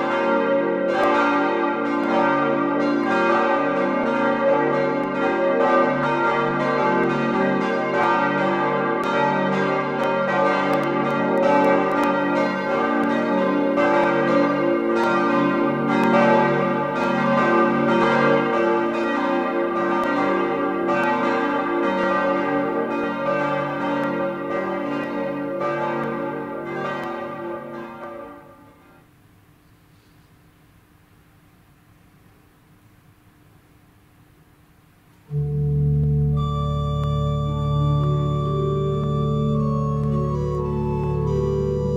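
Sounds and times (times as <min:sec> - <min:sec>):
church bells ringing: 0:00.0 - 0:29.0, 0:35.3 - 0:41.9.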